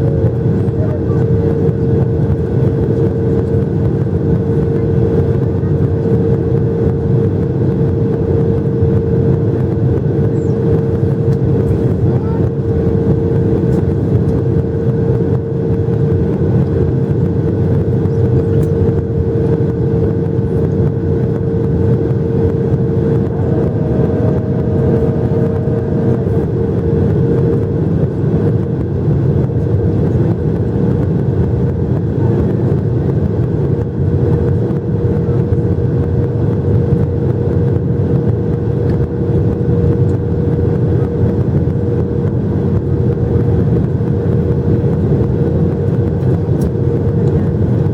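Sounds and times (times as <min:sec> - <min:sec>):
steady hum-like tone: 0:00.0 - 0:47.9.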